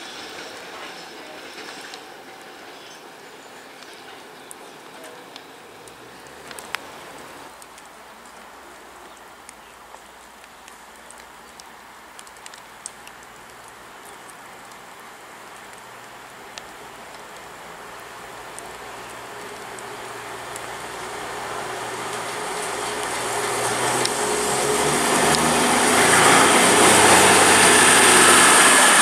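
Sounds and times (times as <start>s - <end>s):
diesel train approaching: 0.0s - 7.6s, 12.5s - 29.0s
steady rain: 0.0s - 29.0s.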